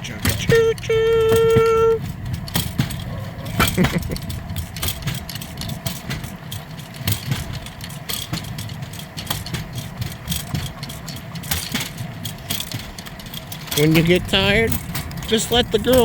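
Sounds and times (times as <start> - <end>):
clicks and rattles from rail joints: 0.0 - 16.0
steel wheels rolling on rail track: 0.0 - 16.0.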